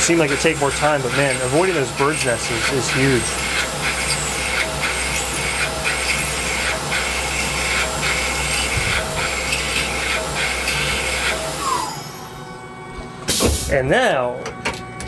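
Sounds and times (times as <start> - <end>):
milling machine spindle running: 0.0 - 12.9.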